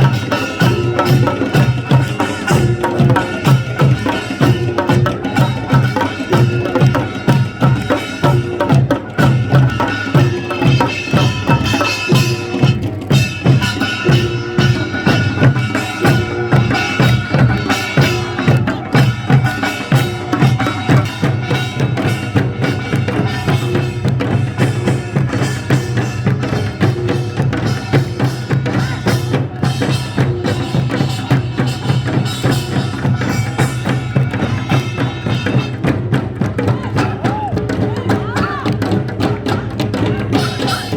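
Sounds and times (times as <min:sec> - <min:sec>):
drums and percussion: 0:00.0 - 0:40.9.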